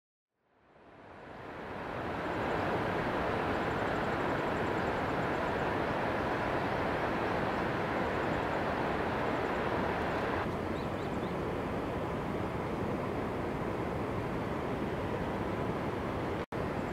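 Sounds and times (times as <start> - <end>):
steady rushing roar: 0.6 - 16.9.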